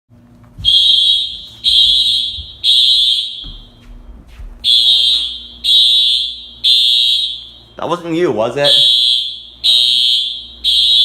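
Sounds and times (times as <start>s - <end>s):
fire alarm horn tones: 0.6s - 3.8s, 4.6s - 11.0s.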